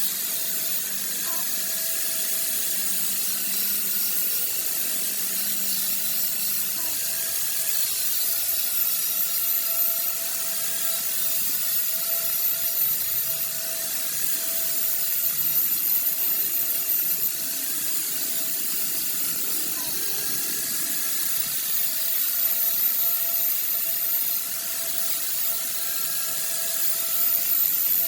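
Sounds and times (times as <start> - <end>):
power tool running: 0.0 - 28.0.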